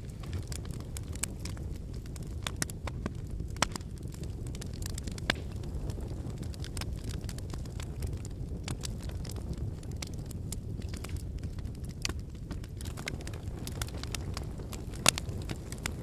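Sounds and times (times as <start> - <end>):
wood campfire burning: 0.0 - 16.0.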